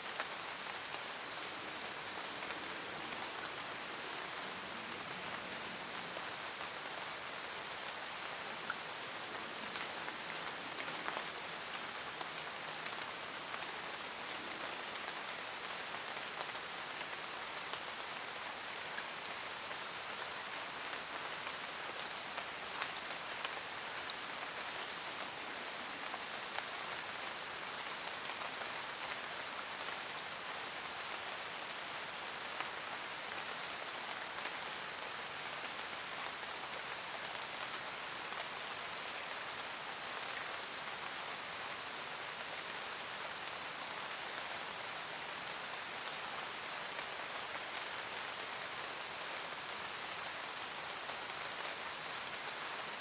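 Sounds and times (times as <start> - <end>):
raindrops ticking on leaves: 0.0 - 53.0
steady rain hiss: 0.0 - 53.0.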